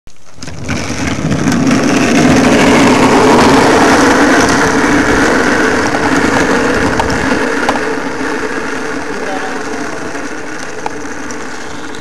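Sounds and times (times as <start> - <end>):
small engine running: 0.3 - 12.0.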